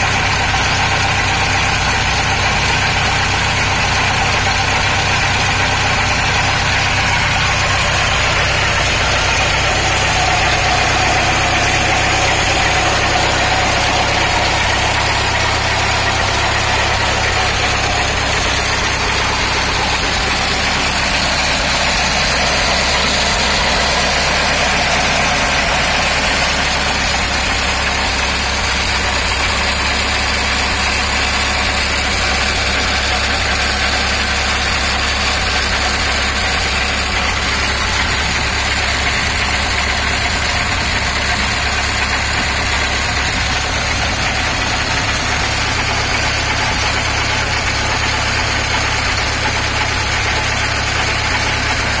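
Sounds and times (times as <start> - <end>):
boat inboard engine running: 0.0 - 52.0.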